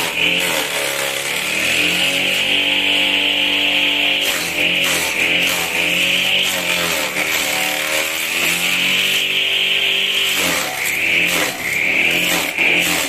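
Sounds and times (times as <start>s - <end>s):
grass chopper motor drone: 0.0s - 13.0s
grass cutting hiss: 0.0s - 13.0s.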